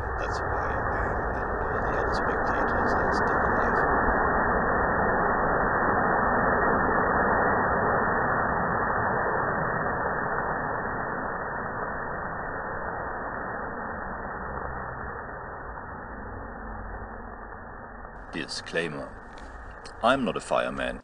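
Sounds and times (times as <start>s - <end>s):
fireball roaring: 0.0s - 21.0s.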